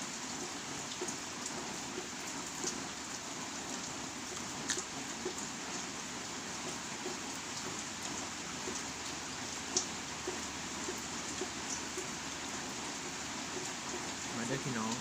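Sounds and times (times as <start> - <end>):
steady rain falling: 0.0 - 15.0
sharp water drips: 0.2 - 15.0.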